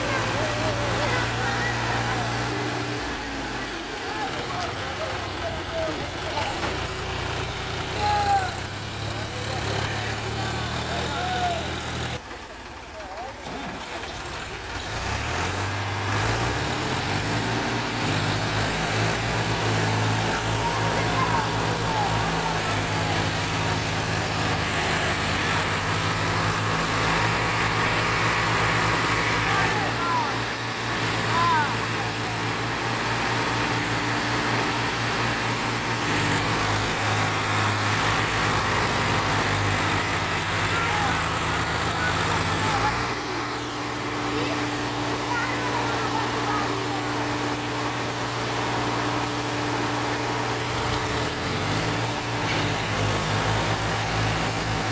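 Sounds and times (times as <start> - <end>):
tractor engines working hard: 0.0 - 54.9.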